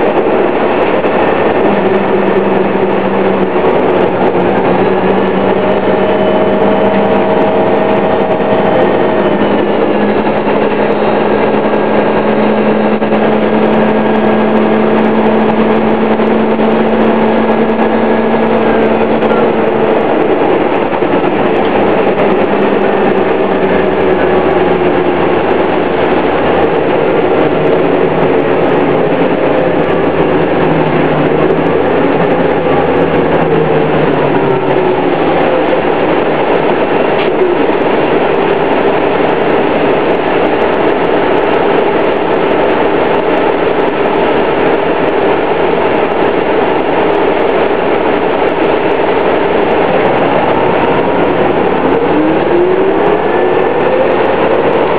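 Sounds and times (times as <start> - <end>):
bus engine whining: 0.0 - 54.9.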